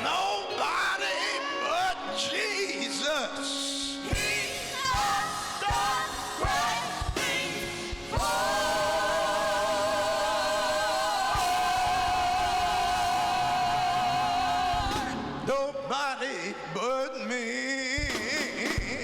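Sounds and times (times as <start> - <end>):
person singing gospel song: 0.0 - 19.0.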